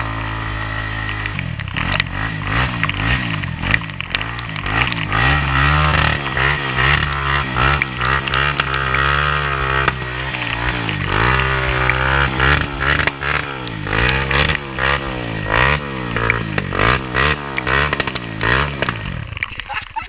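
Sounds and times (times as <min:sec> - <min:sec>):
quad engine revving: 0:00.0 - 0:19.6
wheels spinning in mud: 0:00.0 - 0:20.0.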